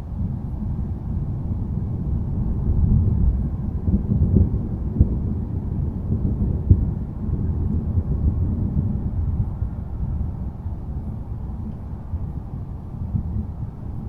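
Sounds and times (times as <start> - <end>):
thunderstorm rumble: 0.0 - 14.0.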